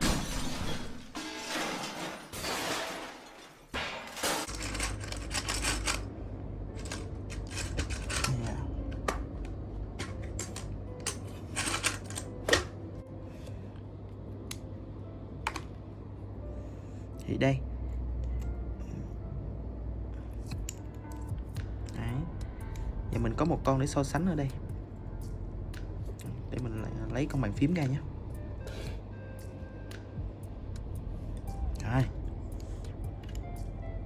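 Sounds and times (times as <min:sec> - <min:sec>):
steady low hum: 0:04.2 - 0:34.0
animated series music: 0:04.5 - 0:34.0.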